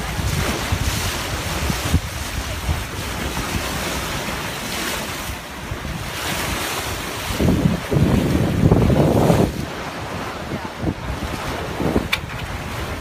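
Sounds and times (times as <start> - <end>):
sea water rushing past hull: 0.0 - 13.0
wind buffeting microphone: 0.0 - 13.0.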